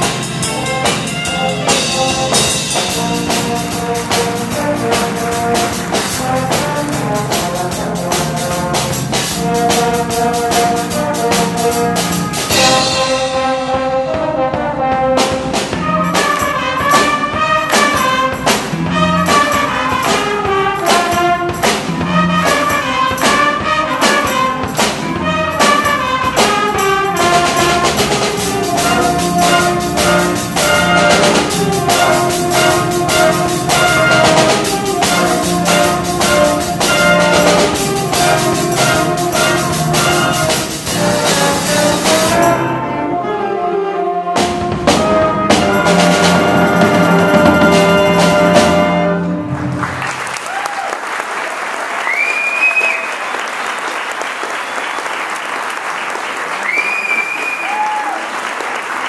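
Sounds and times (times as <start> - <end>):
drum kit beat: 0.0 - 42.8, 44.4 - 49.6
trumpets melody: 0.0 - 50.3
live band playing: 0.0 - 50.7.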